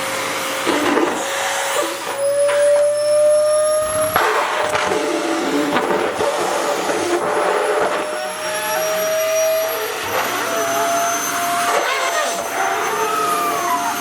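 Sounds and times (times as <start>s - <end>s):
vacuum cleaner motor whine: 0.0s - 14.0s.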